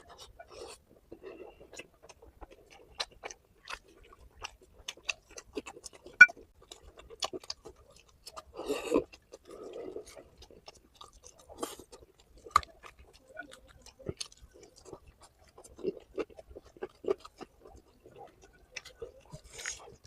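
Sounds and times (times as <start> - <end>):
close chewing: 0.0 - 20.0.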